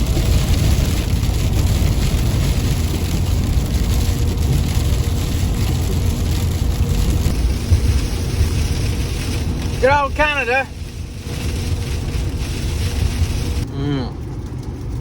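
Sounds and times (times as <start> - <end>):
freezing rain hitting vehicle: 0.0 - 15.0
vehicle road and engine rumble: 0.0 - 15.0.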